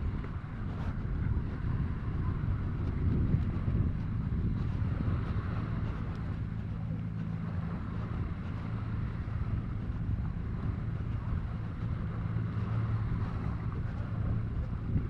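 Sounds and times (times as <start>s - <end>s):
low engine-like hum: 0.0s - 15.0s
wind rumbling on microphone: 0.0s - 15.0s.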